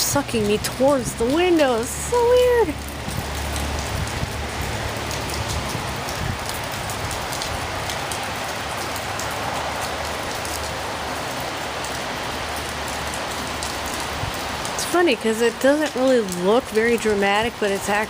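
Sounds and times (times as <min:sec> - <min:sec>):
gusty wind: 0:00.0 - 0:15.3
heavy rain pouring: 0:00.0 - 0:18.0
raindrops ticking sharply: 0:00.0 - 0:18.0.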